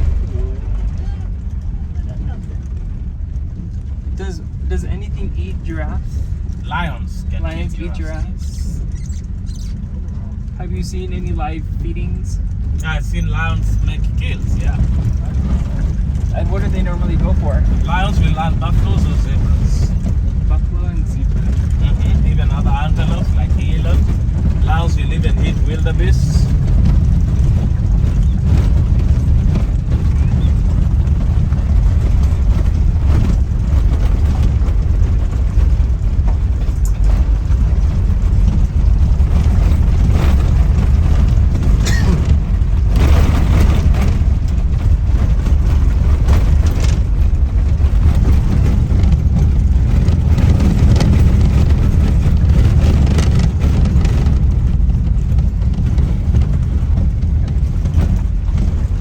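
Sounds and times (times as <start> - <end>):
knocks and rattles: 0.0 - 10.9, 11.9 - 59.0
vehicle driving rumble: 0.0 - 59.0.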